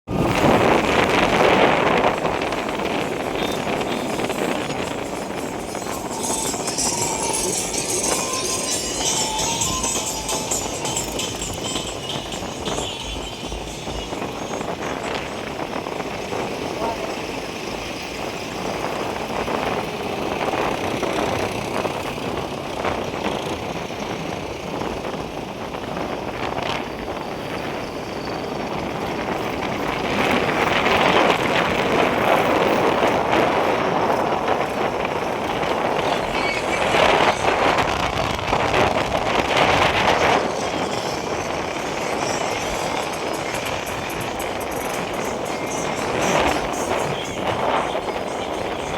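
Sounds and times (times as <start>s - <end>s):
tractor engines running: 0.0s - 48.9s.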